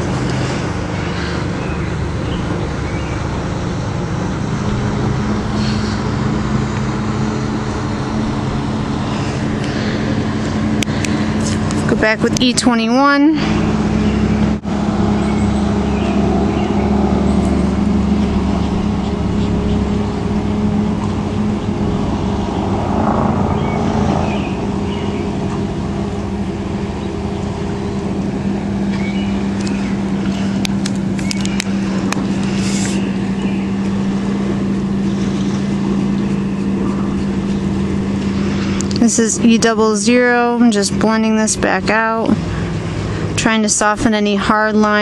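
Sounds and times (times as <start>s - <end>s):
motor hum: 0.0s - 45.0s.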